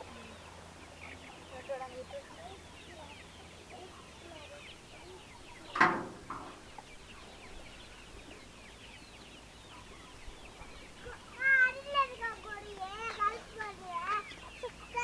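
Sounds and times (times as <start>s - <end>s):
chicks cheeping: 0.0s - 15.0s.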